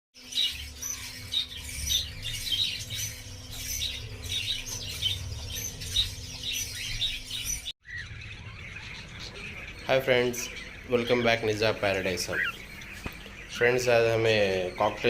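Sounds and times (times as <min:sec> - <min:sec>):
cockatiels squawking and chirping: 0:00.2 - 0:15.0
steady low hum: 0:00.2 - 0:15.0.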